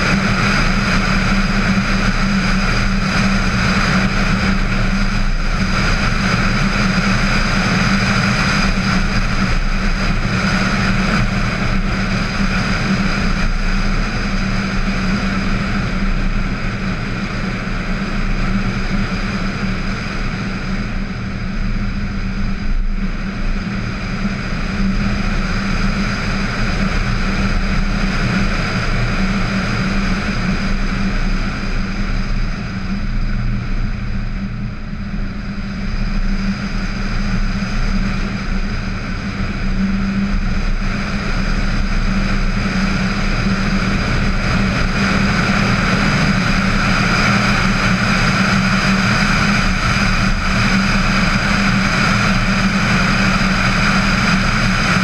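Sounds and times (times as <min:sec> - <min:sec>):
low engine drone: 0:00.0 - 0:55.0
wind and road noise: 0:00.0 - 0:55.0.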